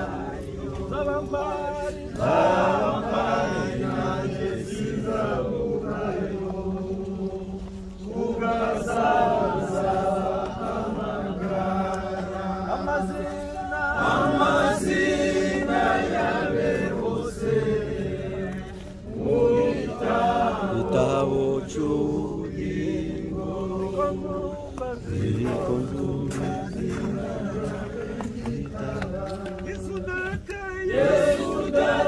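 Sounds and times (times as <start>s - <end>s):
crowd singing in chorus: 0.0s - 32.0s.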